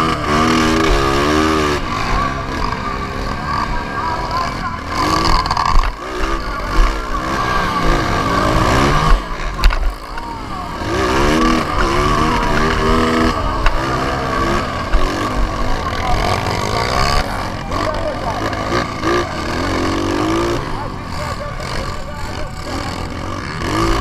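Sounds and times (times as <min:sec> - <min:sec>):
dirt bike engine revving: 0:00.0 - 0:24.0
other motorbike engines: 0:00.0 - 0:24.0.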